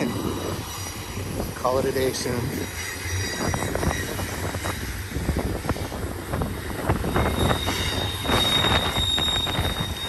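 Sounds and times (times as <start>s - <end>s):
freight train rumbling: 0.0s - 10.0s
steel wheel squeal: 0.0s - 10.0s.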